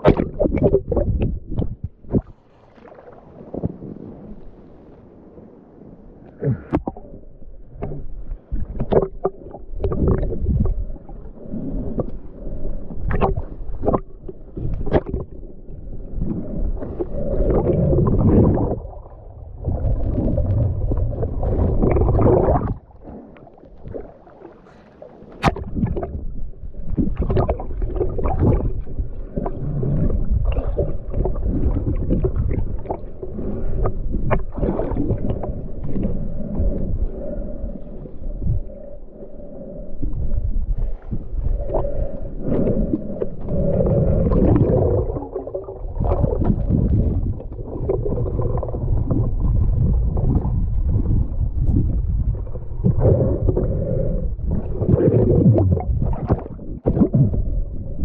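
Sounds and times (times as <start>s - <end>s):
gurgling water rushes: 0.0s - 58.0s
underwater low rumbling: 0.0s - 58.0s.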